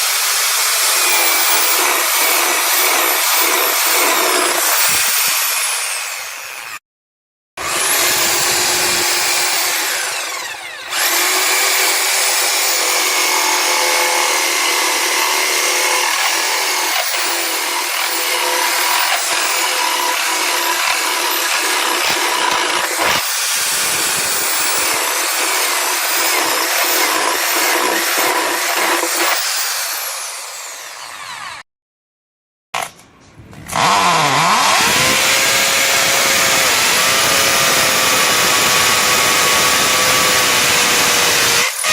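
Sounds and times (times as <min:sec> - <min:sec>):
power drill whining: 0:00.0 - 0:06.8, 0:07.6 - 0:31.6, 0:33.7 - 0:41.9.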